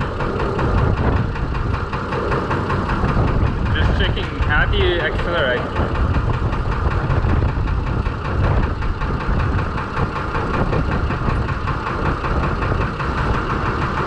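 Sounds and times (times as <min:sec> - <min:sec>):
diesel tractor engine idling: 0:00.0 - 0:14.0.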